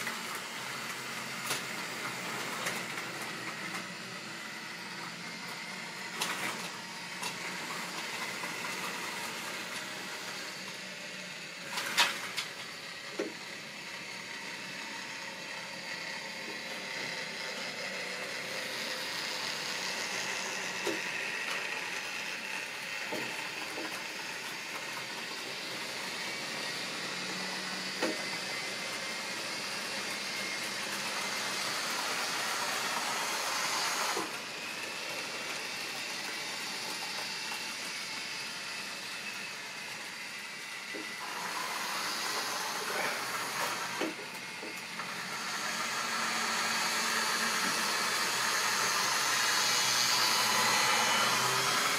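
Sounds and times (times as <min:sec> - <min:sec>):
model train motors whirring: 0:00.0 - 0:51.9.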